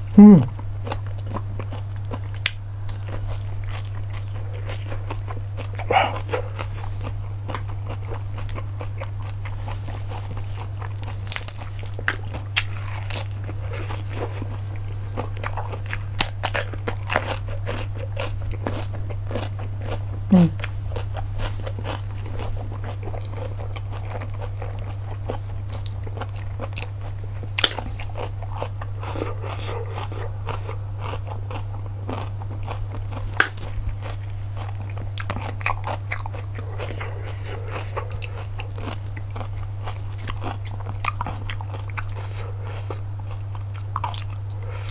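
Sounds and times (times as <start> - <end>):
steady low hum: 0.0 - 44.9
shells crunching and chewing: 0.8 - 44.9.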